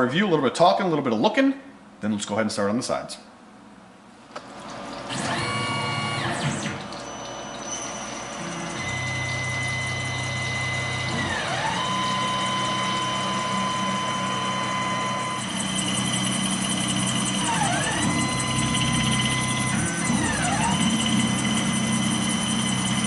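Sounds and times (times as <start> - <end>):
mill spindle whine: 4.4 - 23.0.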